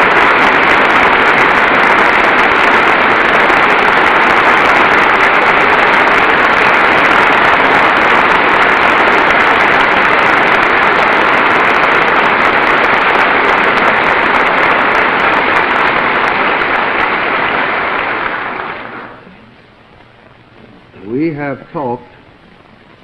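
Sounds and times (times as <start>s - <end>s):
audience applause: 0.0s - 19.5s.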